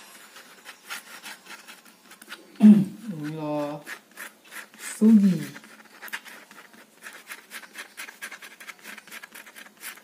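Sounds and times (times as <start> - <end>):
ballpoint pen scratching: 0.1 - 10.0.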